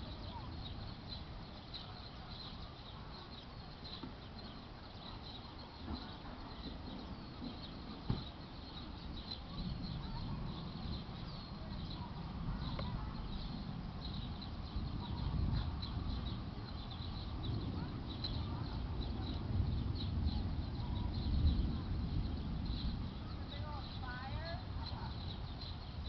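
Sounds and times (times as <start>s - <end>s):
small birds chirping: 0.0s - 26.0s
steady low rumble: 0.0s - 26.0s.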